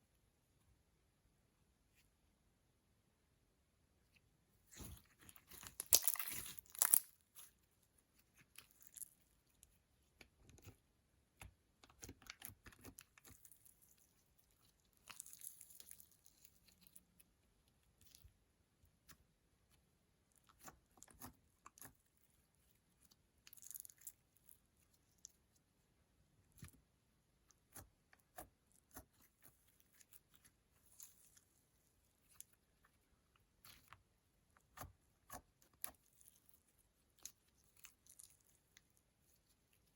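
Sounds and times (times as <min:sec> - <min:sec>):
slime squishing and crackling: 0:04.7 - 0:10.8, 0:11.8 - 0:25.4, 0:27.5 - 0:39.9.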